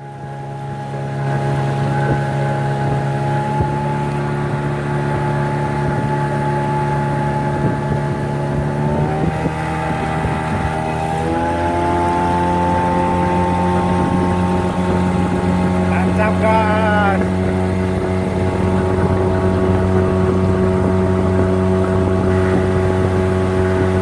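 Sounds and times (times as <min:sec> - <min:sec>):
small boat motor running: 0:00.0 - 0:24.0.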